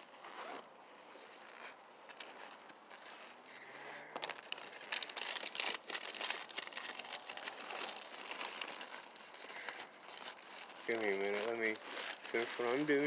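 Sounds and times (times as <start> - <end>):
plastic tarp crinkling: 1.2 - 13.0.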